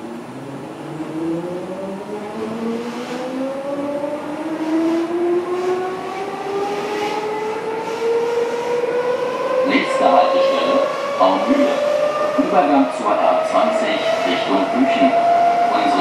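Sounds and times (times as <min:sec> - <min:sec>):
electric train traction whine: 0:00.0 - 0:16.0.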